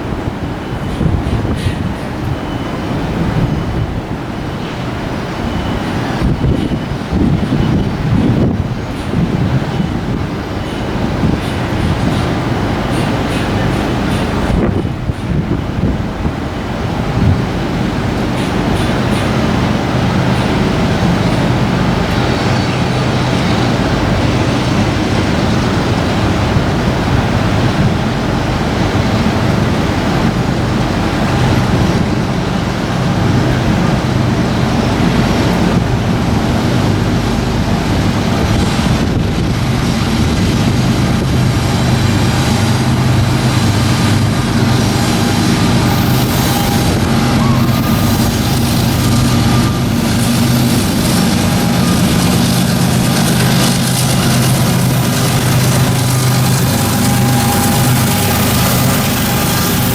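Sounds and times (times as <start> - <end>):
locomotive engine drone: 0.0 - 59.9
train wheels rolling on rails: 0.0 - 59.9.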